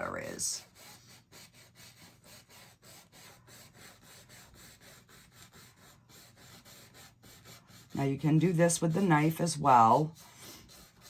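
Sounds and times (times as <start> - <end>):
brush rubbing on canvas: 0.0 - 11.0.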